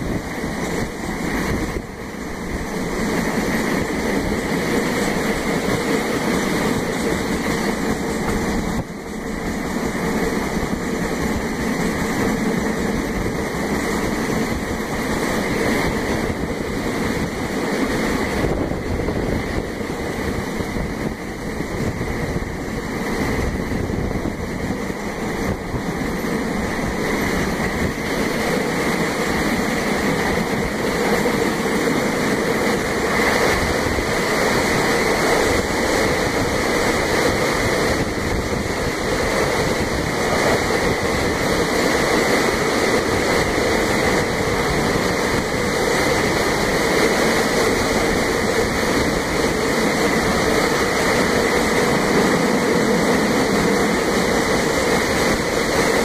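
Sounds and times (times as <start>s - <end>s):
train running on track: 0.0s - 56.0s
wind buffeting microphone: 0.0s - 56.0s.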